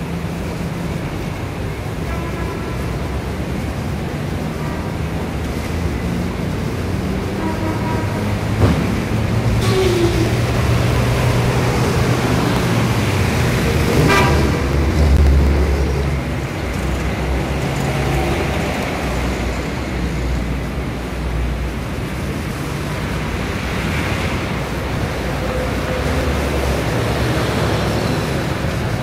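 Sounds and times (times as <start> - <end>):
heavy vehicle rumbling past: 0.0 - 29.0
low rumble of passing vehicles: 0.0 - 29.0.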